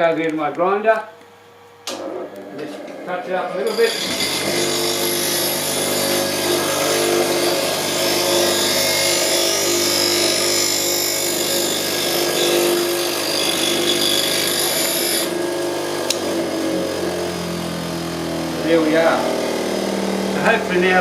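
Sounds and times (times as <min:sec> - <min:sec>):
bench grinder motor hum: 0:01.9 - 0:21.0.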